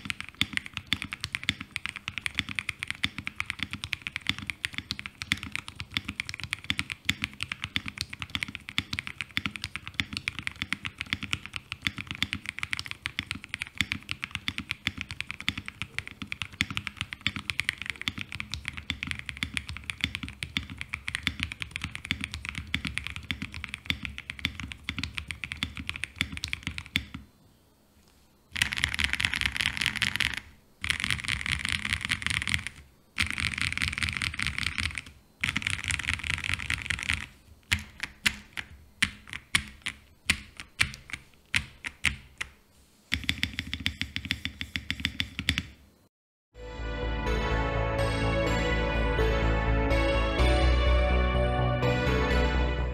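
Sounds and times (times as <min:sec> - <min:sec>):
mechanical keyboard typing: 0:00.0 - 0:27.3, 0:28.5 - 0:45.8.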